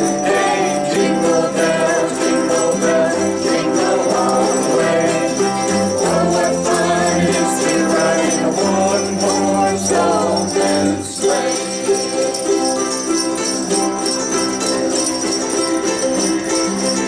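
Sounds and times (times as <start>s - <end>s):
small metal bells shaking: 0.0s - 17.0s
ukulele group strumming: 0.0s - 17.0s.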